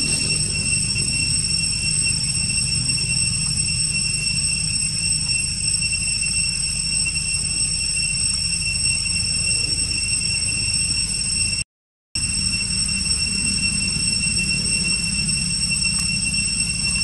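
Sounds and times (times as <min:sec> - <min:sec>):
high-pitched whine: 0:00.0 - 0:11.6, 0:12.2 - 0:17.0.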